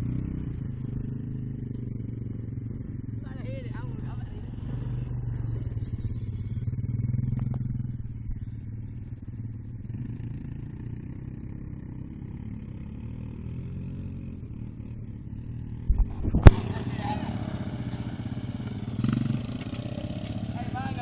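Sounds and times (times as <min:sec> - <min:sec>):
quad bike engines running: 0:00.0 - 0:21.0.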